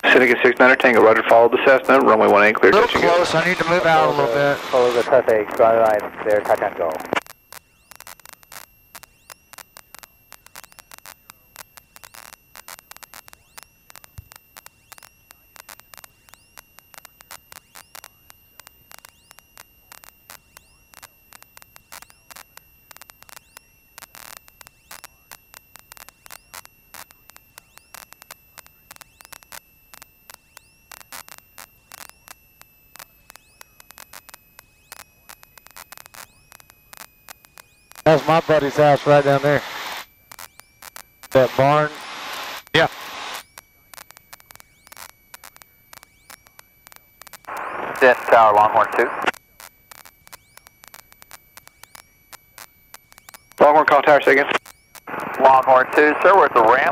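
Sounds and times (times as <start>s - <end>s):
crackling radio static clicks: 0.0s - 56.9s
high-pitched whine: 0.0s - 56.9s.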